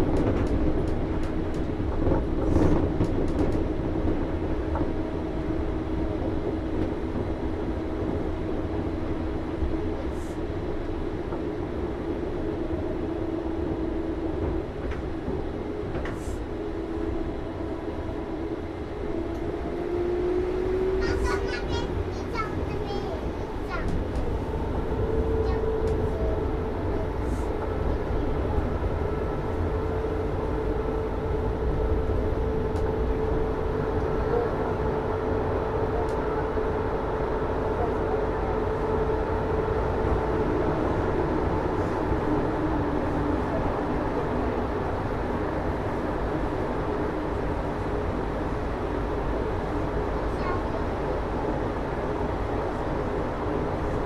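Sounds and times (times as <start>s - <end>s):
train rolling rumble: 0.0s - 54.0s.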